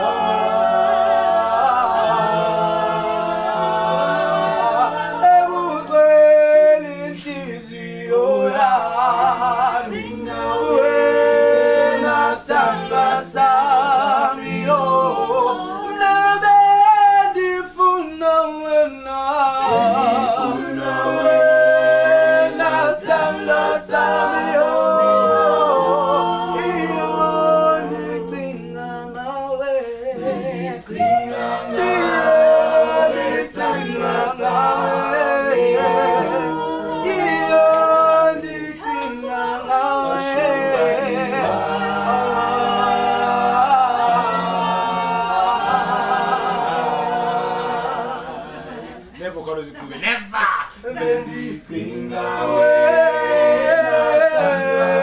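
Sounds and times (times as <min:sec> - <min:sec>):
group singing a cappella: 0:00.0 - 0:55.0.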